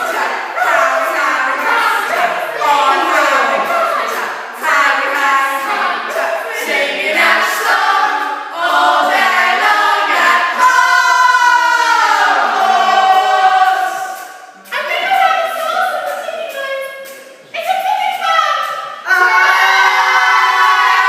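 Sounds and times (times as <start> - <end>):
voices singing without accompaniment: 0.0 - 21.0.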